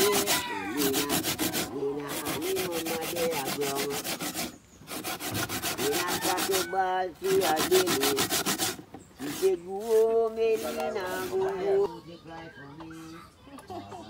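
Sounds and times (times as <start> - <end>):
coconut grating rasps: 0.0 - 11.8.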